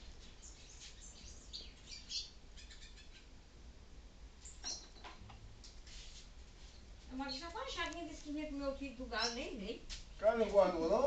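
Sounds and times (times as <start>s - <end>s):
small birds chirping: 0.0s - 3.5s, 4.4s - 5.2s, 6.0s - 11.0s
rustle: 0.0s - 11.0s.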